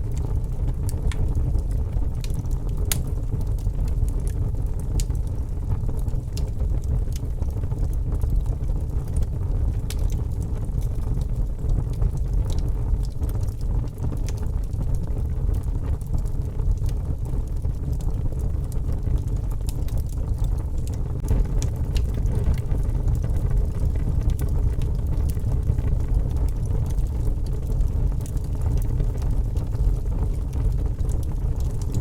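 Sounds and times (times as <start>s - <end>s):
wind rumble: 0.0s - 32.0s
wood fire crackling and popping: 0.0s - 32.0s.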